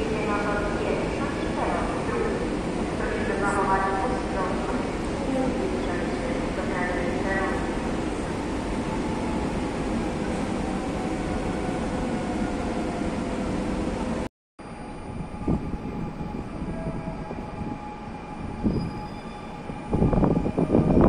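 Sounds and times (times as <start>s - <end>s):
electric locomotive rumbling past: 0.0s - 21.0s.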